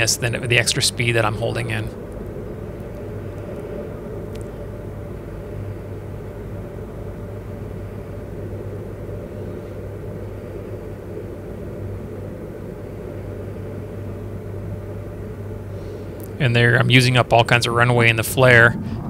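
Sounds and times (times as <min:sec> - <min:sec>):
airplane engine droning: 0:00.0 - 0:19.0.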